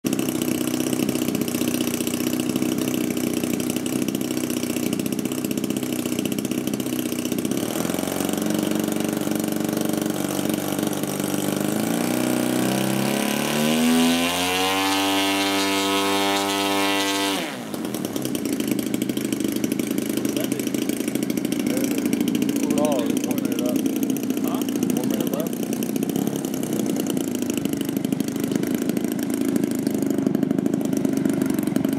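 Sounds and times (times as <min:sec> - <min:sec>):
model plane engine revving: 0:00.1 - 0:31.9.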